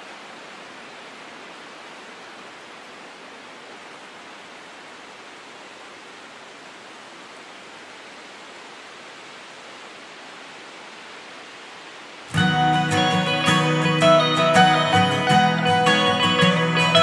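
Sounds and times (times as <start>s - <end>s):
steady even hiss: 0.0s - 17.0s.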